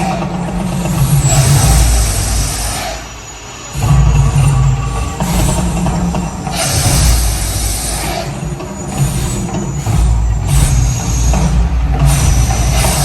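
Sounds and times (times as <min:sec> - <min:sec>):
deep continuous rumble: 0:00.0 - 0:13.0
hissing roaring surges: 0:00.0 - 0:13.0.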